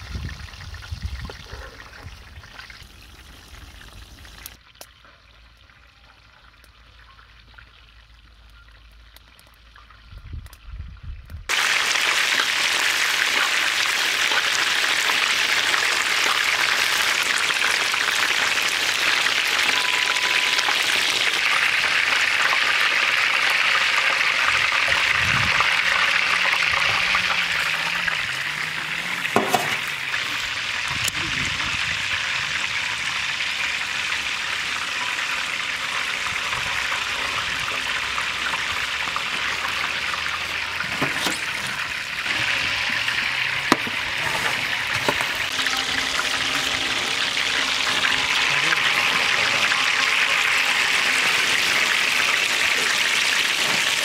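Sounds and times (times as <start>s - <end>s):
oil sizzling while deep-frying: 0.0s - 54.0s.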